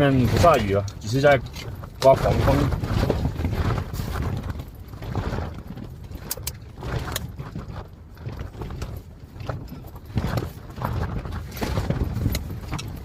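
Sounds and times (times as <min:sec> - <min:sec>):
wind buffeting tent: 0:00.0 - 0:13.0
wind rumbling on microphone: 0:00.0 - 0:13.0.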